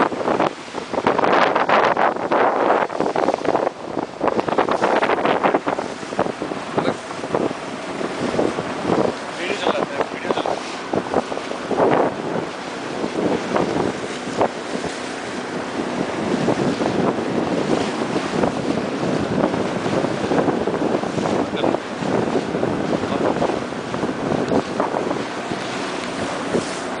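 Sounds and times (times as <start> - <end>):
waves splashing against boat: 0.0 - 27.0
wind buffeting microphone: 0.0 - 27.0.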